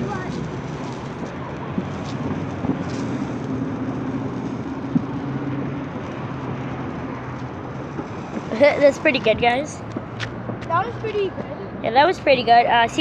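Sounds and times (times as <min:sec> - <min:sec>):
firework fountain hissing: 0:00.0 - 0:13.0.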